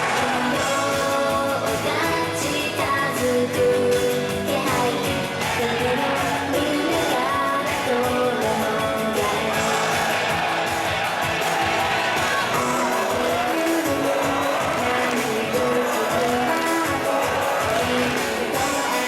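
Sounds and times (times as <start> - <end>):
guitar backing: 0.0 - 19.0
pop song over sound system: 0.0 - 19.0
young women singing together: 0.0 - 19.0.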